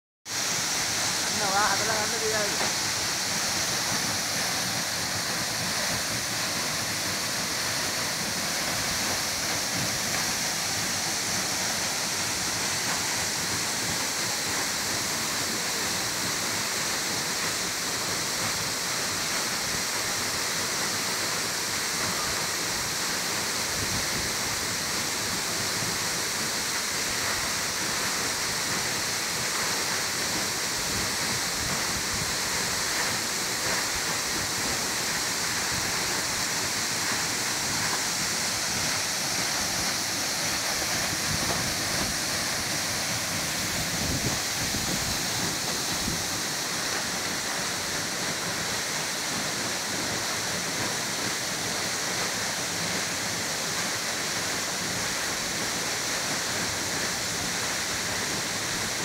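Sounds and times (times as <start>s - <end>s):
waterfall rushing: 0.3s - 59.0s.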